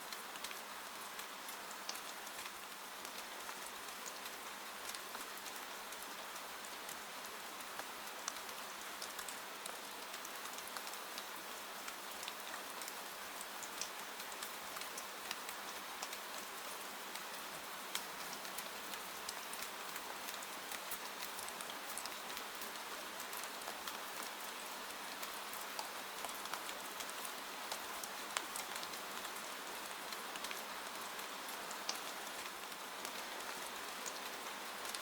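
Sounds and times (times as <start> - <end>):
rain falling: 0.1 - 35.0.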